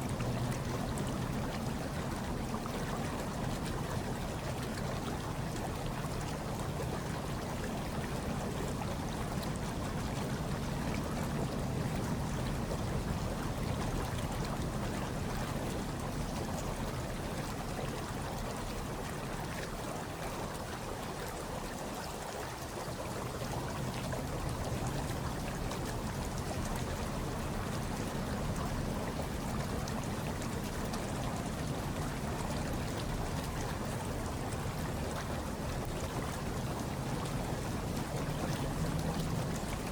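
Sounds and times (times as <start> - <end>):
hot tub water churning: 0.0 - 39.9.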